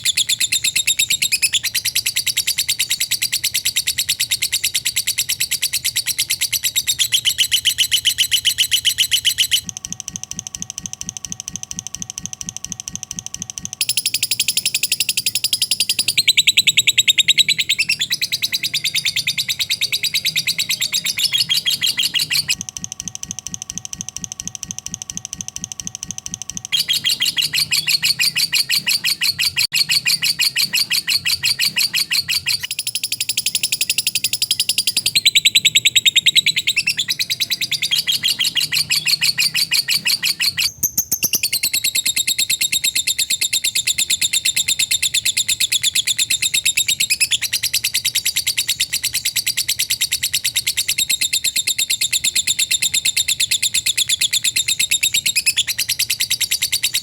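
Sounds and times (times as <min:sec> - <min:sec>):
lovebird chattering song: 0:00.0 - 0:09.7, 0:13.8 - 0:22.6, 0:26.7 - 0:57.0.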